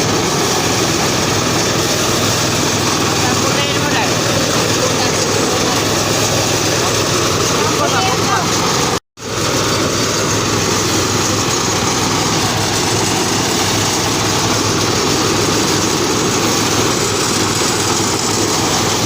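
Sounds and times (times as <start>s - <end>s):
engine running with clatter: 0.0s - 19.0s.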